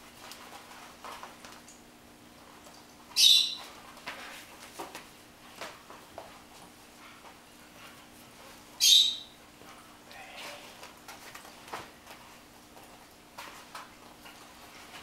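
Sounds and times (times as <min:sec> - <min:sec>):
puppy scuffling on hard floor: 0:00.0 - 0:01.8, 0:03.5 - 0:08.8, 0:09.5 - 0:15.0.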